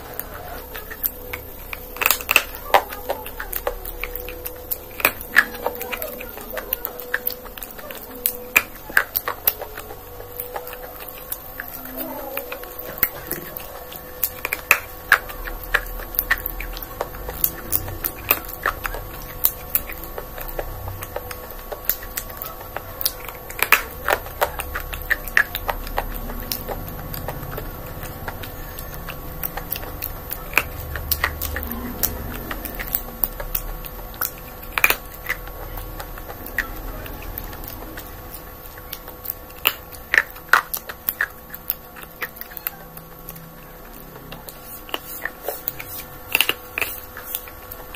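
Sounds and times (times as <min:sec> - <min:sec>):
chewing and mouth clicks: 0:00.0 - 0:47.9
faint hum: 0:00.0 - 0:47.9.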